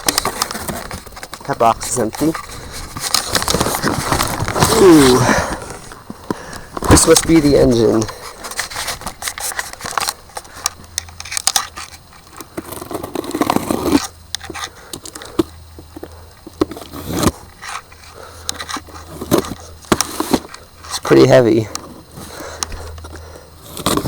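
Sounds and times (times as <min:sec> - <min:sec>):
cardboard box rustling: 0:00.0 - 0:10.6, 0:11.3 - 0:21.1, 0:21.8 - 0:24.0.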